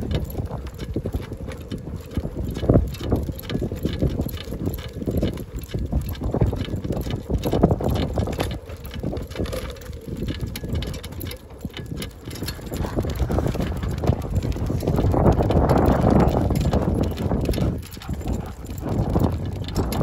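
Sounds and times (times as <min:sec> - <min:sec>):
cart wheels rumbling on asphalt: 0:00.0 - 0:20.0
wind on microphone: 0:00.0 - 0:20.0.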